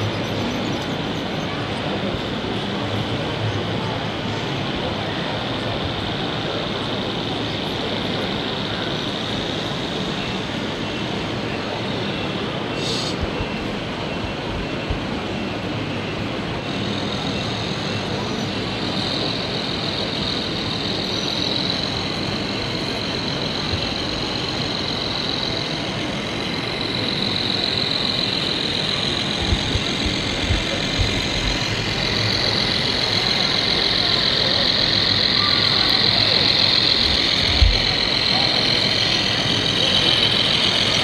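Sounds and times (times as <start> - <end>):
crowded hall din: 0.0 - 41.0
model truck high whine: 0.0 - 41.0.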